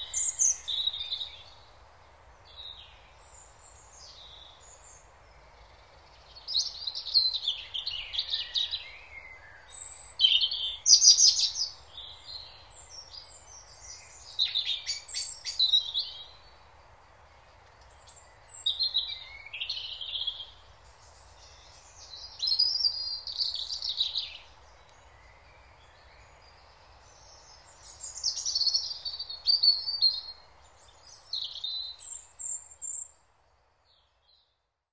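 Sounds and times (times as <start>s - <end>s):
birds singing: 0.0s - 1.7s, 2.4s - 16.7s, 17.4s - 33.2s
faint steady hiss: 0.0s - 34.9s.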